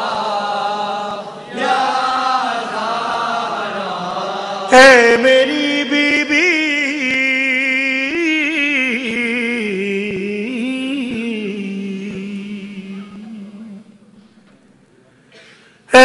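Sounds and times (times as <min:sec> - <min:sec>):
man singing through microphone: 0:00.0 - 0:14.2.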